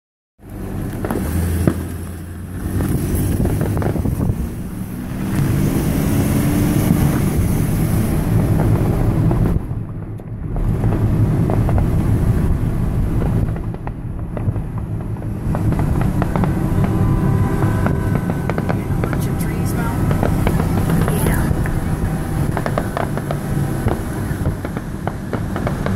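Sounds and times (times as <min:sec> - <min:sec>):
distant fireworks cracking and popping: 0:00.4 - 0:05.6, 0:06.3 - 0:25.9
low rumble: 0:00.4 - 0:25.9.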